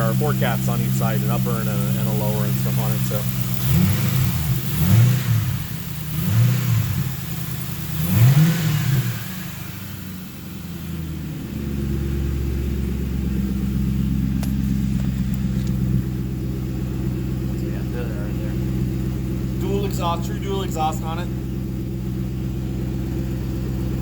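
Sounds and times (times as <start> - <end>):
truck engine revving and rumbling: 0.0 - 24.0.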